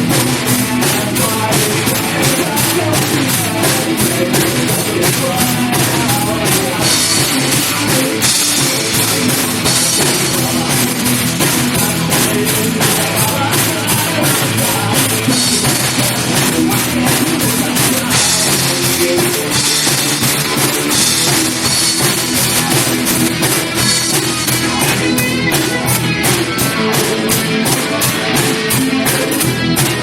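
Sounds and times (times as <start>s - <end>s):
bass guitar: 0.0s - 30.0s
distorted electric guitar: 0.0s - 30.0s
drum kit beat: 0.0s - 30.0s.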